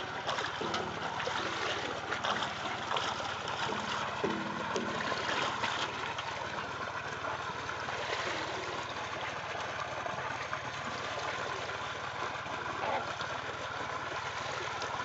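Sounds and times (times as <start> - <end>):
water trickling and sloshing: 0.0 - 15.0.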